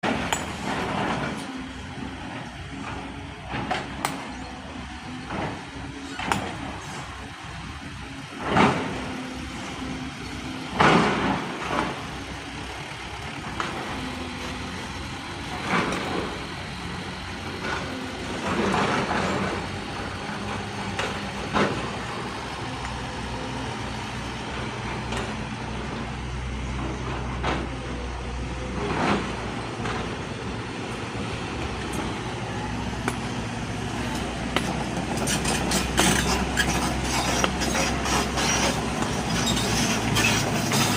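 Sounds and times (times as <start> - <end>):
excavator diesel engine drone: 0.0 - 40.9.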